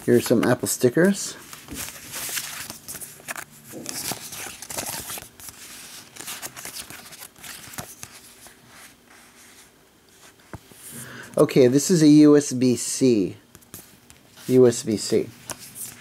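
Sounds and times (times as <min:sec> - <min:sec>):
card and paper rustling: 0:00.0 - 0:10.7, 0:13.5 - 0:16.0.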